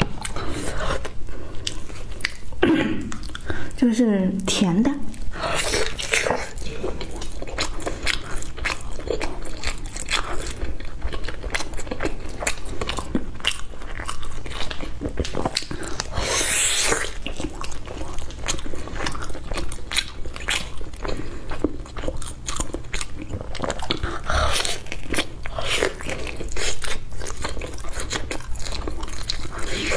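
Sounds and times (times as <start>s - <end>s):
person biting and wet chewing: 0.0s - 3.8s, 5.1s - 29.9s.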